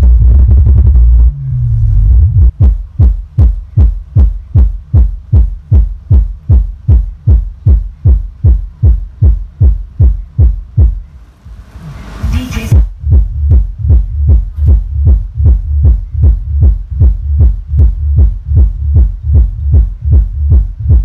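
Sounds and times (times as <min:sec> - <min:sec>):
bass kick thumps from subwoofers: 0:00.0 - 0:21.0.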